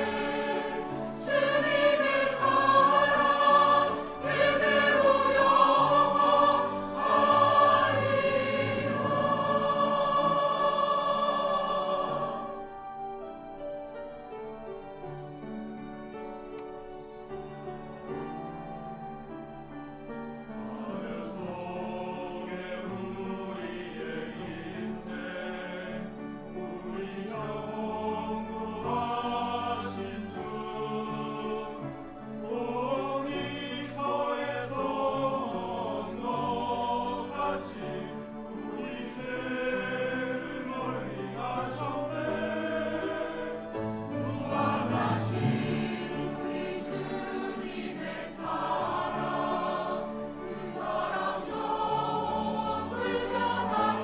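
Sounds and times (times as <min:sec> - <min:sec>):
choir singing: 0:00.0 - 0:13.6, 0:20.0 - 0:54.0.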